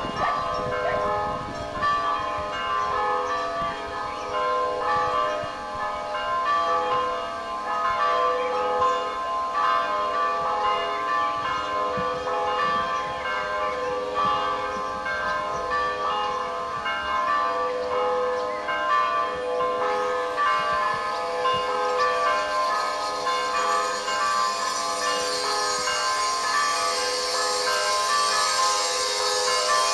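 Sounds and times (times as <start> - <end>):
church bells pealing: 0.0 - 29.9.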